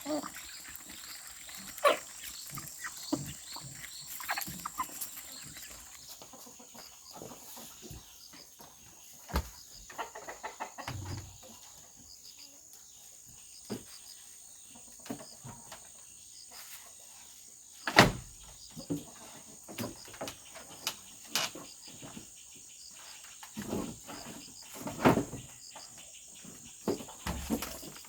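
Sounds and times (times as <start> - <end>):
chickens clucking: 0.0 - 17.4, 18.7 - 28.0.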